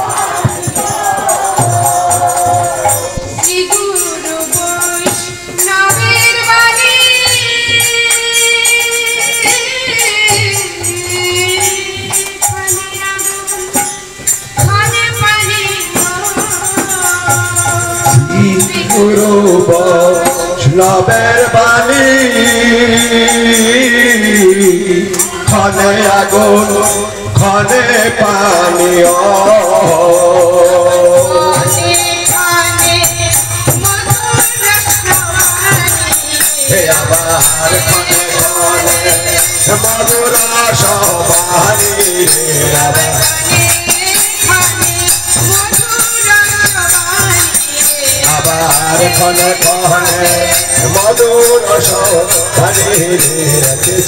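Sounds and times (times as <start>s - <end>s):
voices singing a chant: 0.0s - 13.8s, 15.7s - 45.8s
barrel drum rhythm: 0.0s - 54.0s
jingling hand percussion: 0.0s - 54.0s.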